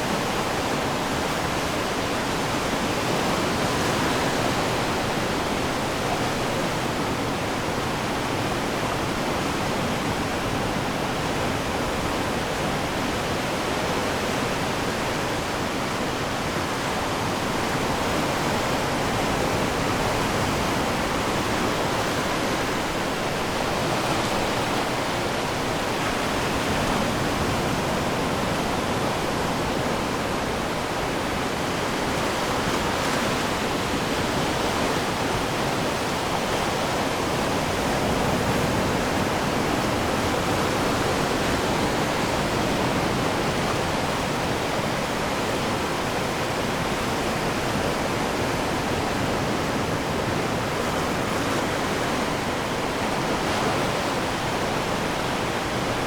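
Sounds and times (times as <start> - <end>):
surf washing onto shore: 0.0 - 56.0.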